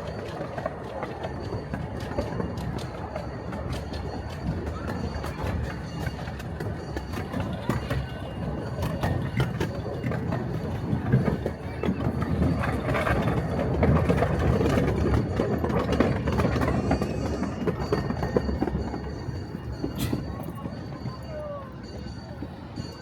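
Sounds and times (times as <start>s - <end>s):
miniature train rumbling: 0.0s - 23.0s
wheels clicking over rail joints: 0.0s - 23.0s.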